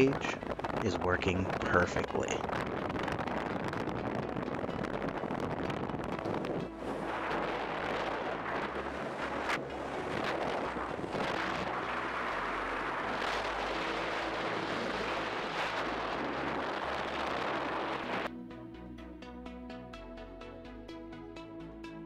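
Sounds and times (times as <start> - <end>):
rushing water: 0.0 - 18.3
wind buffeting microphone: 0.0 - 18.3.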